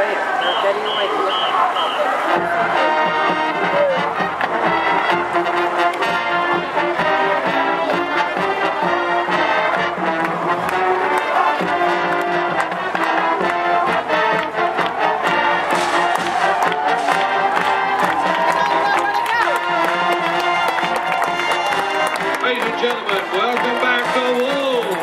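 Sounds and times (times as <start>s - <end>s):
brass holding chords: 0.4s - 24.4s
steady drum beat: 2.3s - 24.2s.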